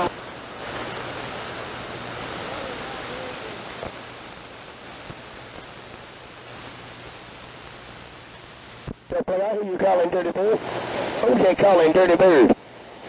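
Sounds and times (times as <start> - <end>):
faint wavering distant signal: 0.0 - 12.6
radio static hiss: 0.0 - 13.0.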